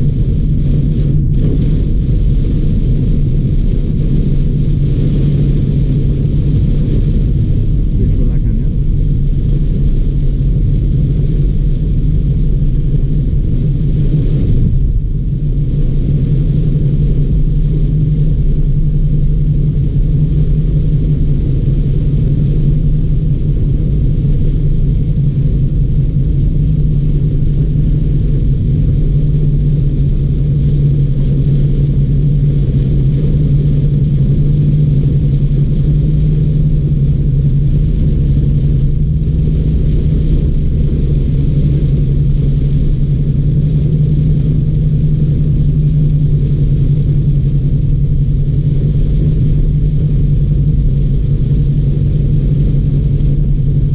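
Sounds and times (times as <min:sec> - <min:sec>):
car driving low rumble: 0:00.0 - 0:53.9
faint rain hiss: 0:00.0 - 0:53.9.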